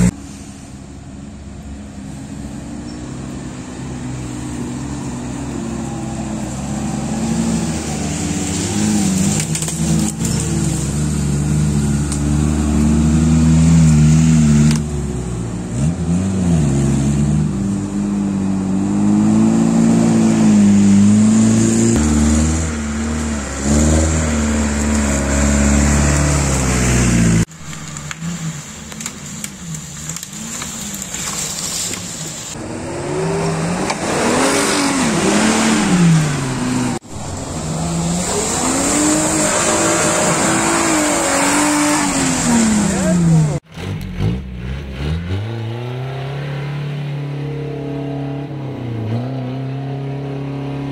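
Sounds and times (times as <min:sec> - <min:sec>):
off-road vehicle engines revving: 0:00.0 - 0:50.9.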